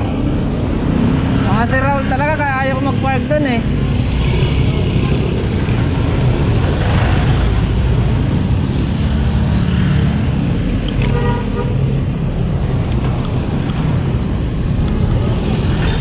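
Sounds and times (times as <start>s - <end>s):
road traffic noise: 0.0s - 16.0s
vehicles passing close by: 0.0s - 16.0s.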